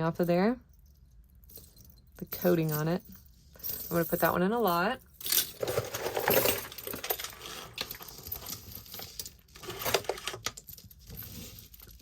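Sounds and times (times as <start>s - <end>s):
jewelry clicking and clinking: 0.1s - 12.0s.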